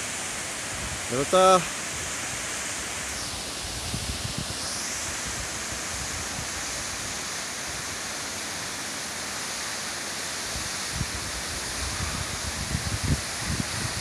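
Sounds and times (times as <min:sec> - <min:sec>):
waterfall rushing onto rocks: 0:00.0 - 0:14.0.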